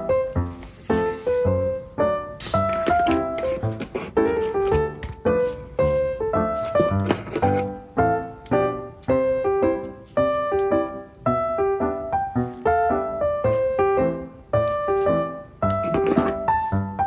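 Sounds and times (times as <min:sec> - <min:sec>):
light piano music: 0:00.0 - 0:17.0.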